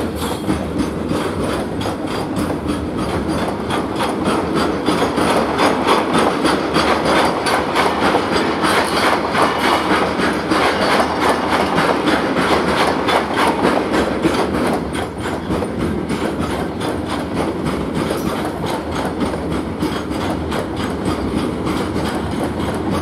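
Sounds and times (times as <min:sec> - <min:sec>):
freight train wheels clicking: 0:00.0 - 0:23.0.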